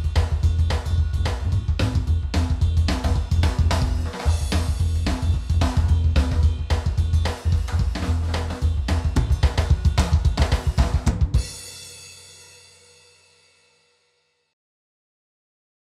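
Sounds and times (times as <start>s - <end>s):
drum beat with heavy bass: 0.0s - 12.8s.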